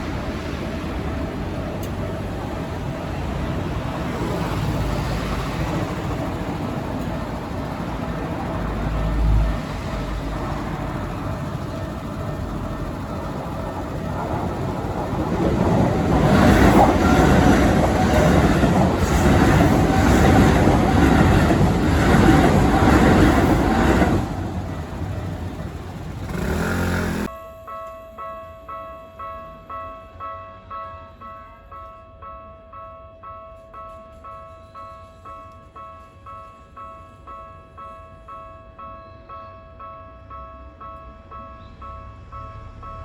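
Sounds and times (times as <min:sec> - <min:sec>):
train passing: 0:00.0 - 0:43.0.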